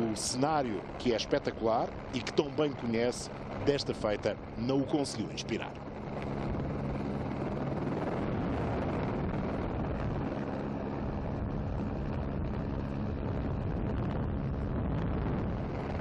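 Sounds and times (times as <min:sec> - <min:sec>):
dense rushing noise: 0:00.0 - 0:16.0
steady engine drone: 0:00.0 - 0:16.0.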